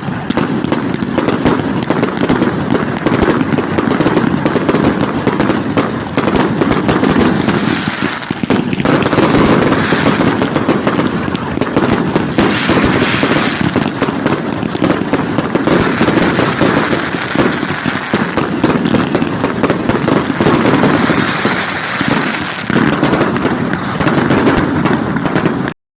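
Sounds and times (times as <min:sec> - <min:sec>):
fireworks crackling and banging: 0:00.0 - 0:25.8.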